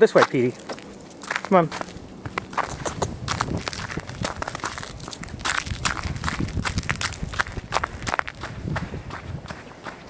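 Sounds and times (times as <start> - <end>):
footsteps crunching through snow: 0.0 - 10.0.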